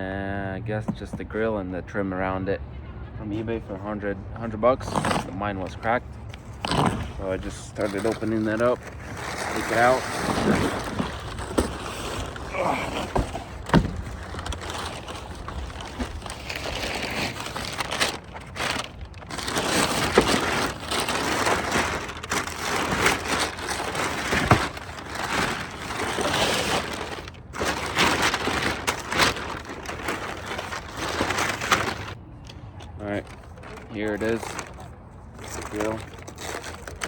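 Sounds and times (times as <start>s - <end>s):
plastic scraping: 4.4s - 32.2s, 33.0s - 37.0s.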